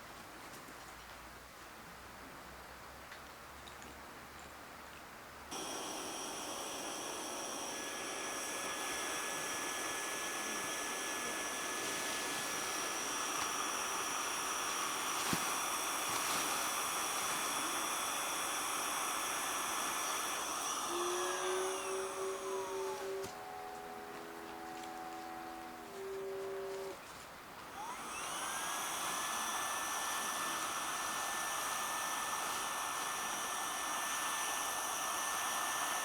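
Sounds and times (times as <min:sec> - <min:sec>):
small machine motor whirring: 0:05.5 - 0:27.0, 0:27.7 - 0:36.0.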